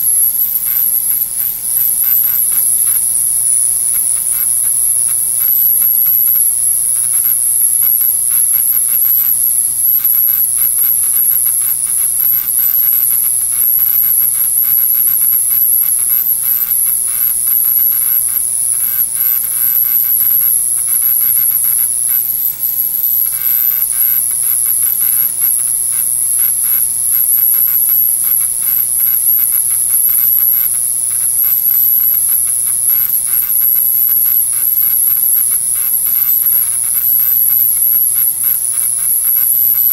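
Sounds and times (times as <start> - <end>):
high-pitched ultrasonic whine: 0.0 - 39.9
rapid crackling buzz: 0.0 - 39.9.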